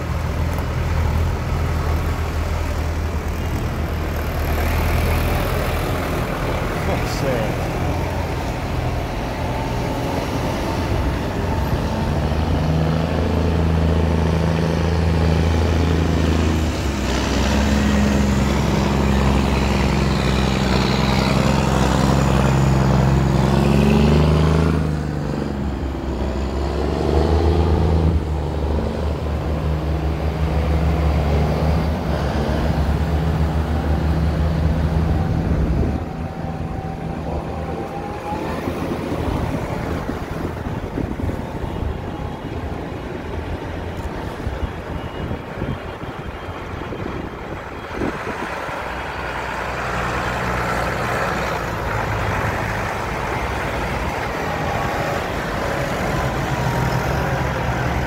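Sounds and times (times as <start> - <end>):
diesel tractor engines running: 0.0 - 58.0
tractors driving past: 0.0 - 58.0.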